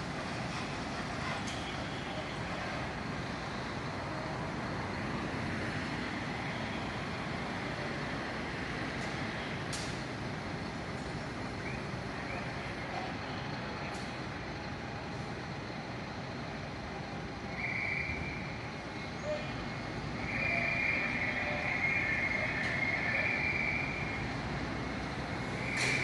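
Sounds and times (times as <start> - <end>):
road traffic: 0.0 - 26.0.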